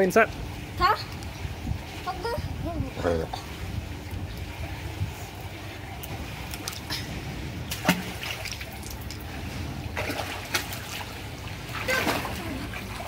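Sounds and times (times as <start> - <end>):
pool water splashing and trickling: 0.0 - 13.0.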